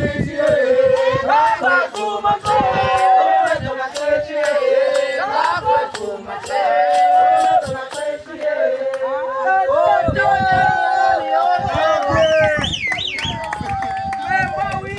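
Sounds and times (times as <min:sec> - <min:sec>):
group of voices chanting: 0:00.0 - 0:12.6.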